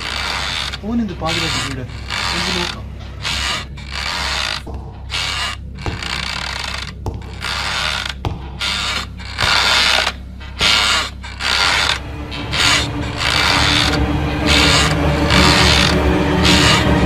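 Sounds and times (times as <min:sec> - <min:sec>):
low hum: 0:00.0 - 0:17.0
trolley wheels rattling: 0:00.0 - 0:17.0.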